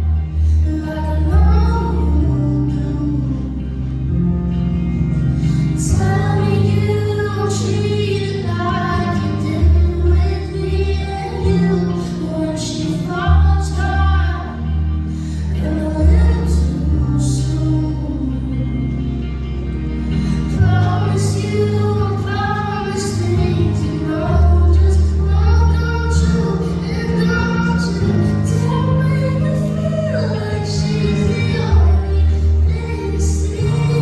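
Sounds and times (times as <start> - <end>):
woman singing: 0.0 - 4.2, 5.4 - 19.3, 20.0 - 34.0
sustained bass notes: 0.0 - 34.0.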